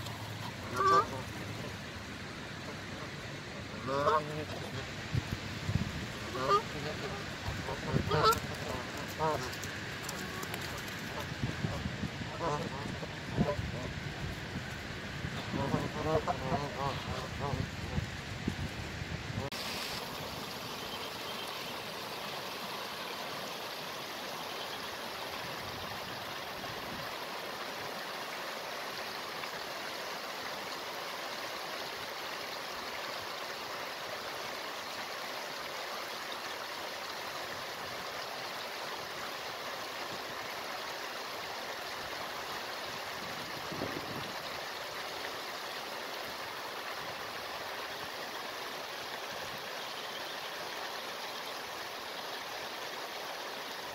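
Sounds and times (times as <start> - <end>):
water rushing over rocks: 0.0 - 18.8, 19.5 - 53.9.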